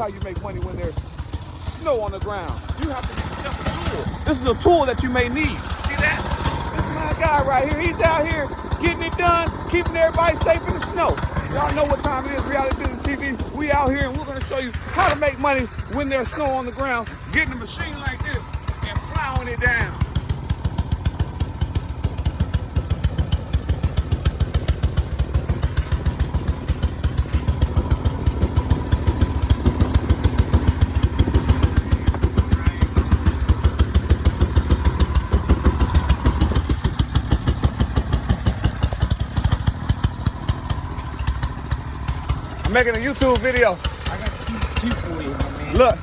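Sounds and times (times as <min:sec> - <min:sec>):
snow-clearing machine engine running: 0:00.0 - 0:46.0.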